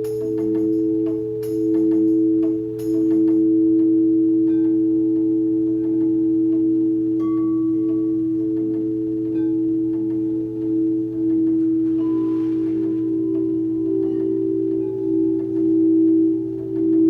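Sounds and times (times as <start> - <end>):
crystal singing bowls ringing: 0.0 - 17.0
low hum: 0.0 - 17.0.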